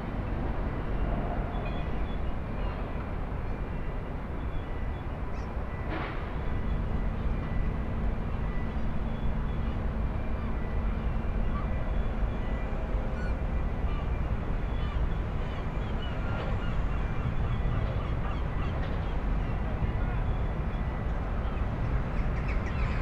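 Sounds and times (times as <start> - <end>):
ship engine hum: 0.0 - 23.0.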